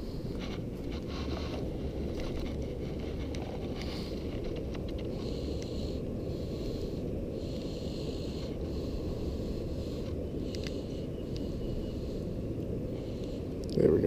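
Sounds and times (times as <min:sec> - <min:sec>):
faint clicks and rustles of hands: 0:00.0 - 0:13.8
wind buffeting microphone: 0:00.0 - 0:14.0.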